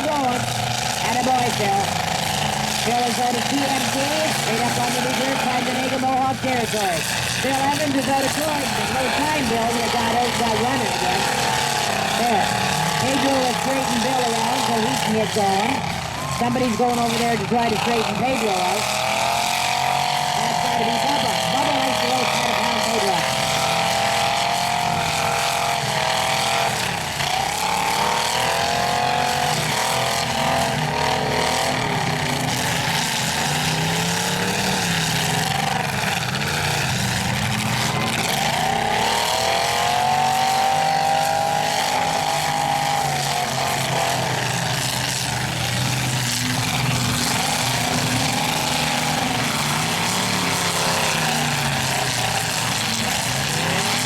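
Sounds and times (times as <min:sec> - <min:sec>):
truck engines revving hard: 0:00.0 - 0:54.0.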